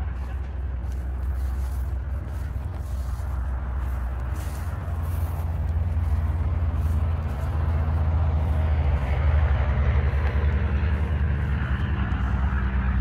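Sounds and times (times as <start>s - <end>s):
engine running with fast throb: 0.0s - 13.0s.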